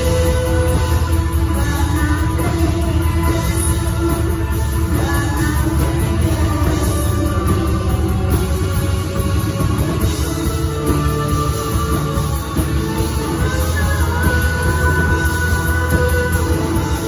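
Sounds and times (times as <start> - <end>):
live band playing slow song: 0.0 - 17.0.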